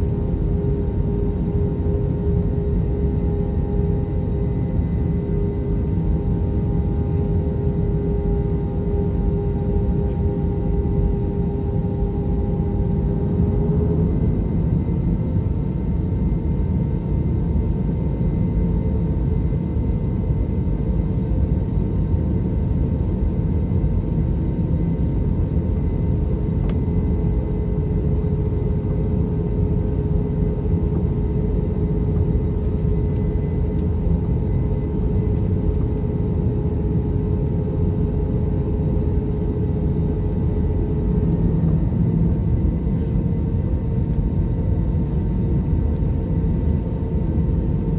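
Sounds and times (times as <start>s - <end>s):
jet engine whine: 0.0s - 47.9s.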